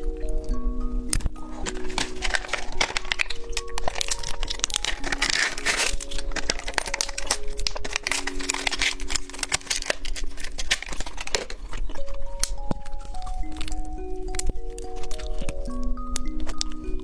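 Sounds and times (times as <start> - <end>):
soft background music: 0.0 - 17.0
plastic packaging crinkling: 1.1 - 17.0.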